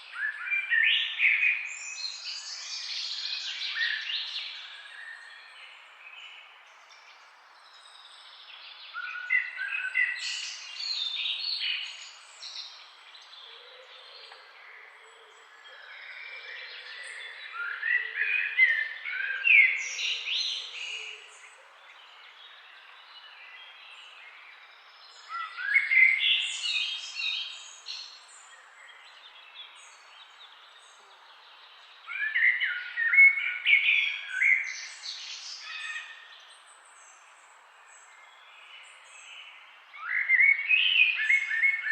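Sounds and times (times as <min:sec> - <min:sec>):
bird chirping song: 0:00.0 - 0:41.9.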